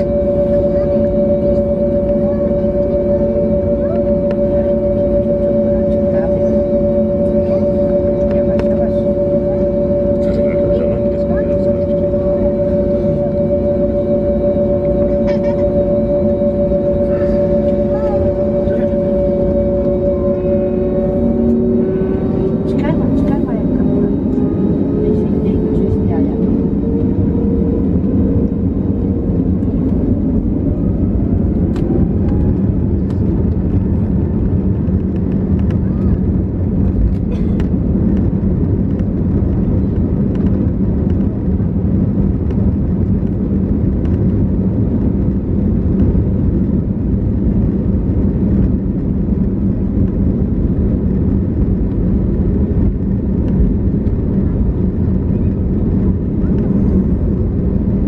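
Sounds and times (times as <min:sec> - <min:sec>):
engine and runway noise: 0:00.0 - 0:58.0
jet engine whine rising: 0:00.0 - 0:58.0.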